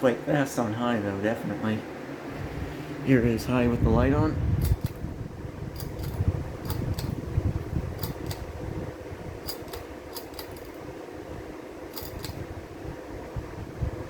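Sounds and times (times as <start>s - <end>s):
ceiling fan hum: 0.0s - 14.0s.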